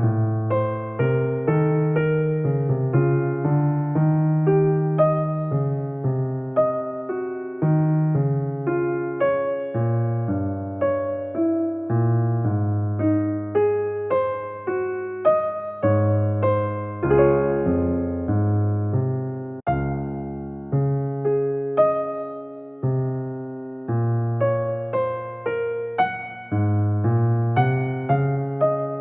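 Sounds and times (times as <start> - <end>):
electric piano melody: 0.0 - 29.0.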